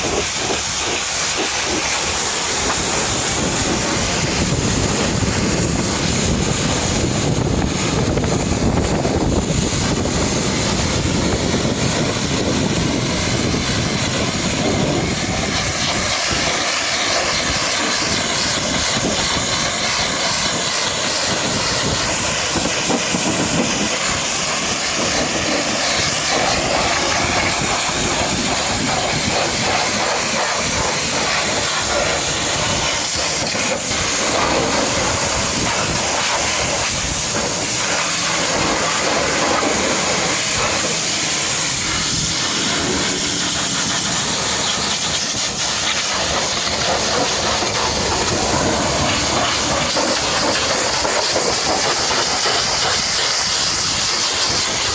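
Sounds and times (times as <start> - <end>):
pressure washer spraying water: 0.0 - 54.9.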